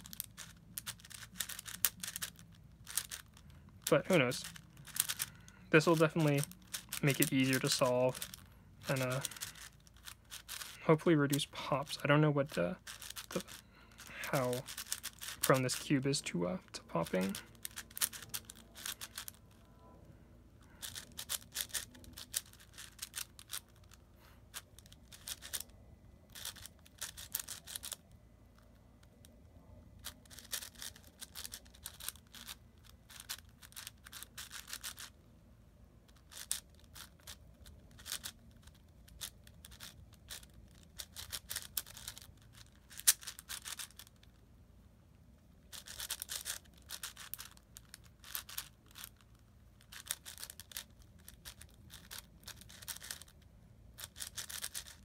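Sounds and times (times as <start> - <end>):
puzzle cube clicking and rattling: 0.0 - 19.7, 20.8 - 25.7, 26.3 - 29.4, 30.0 - 35.2, 36.1 - 44.4, 45.6 - 55.0.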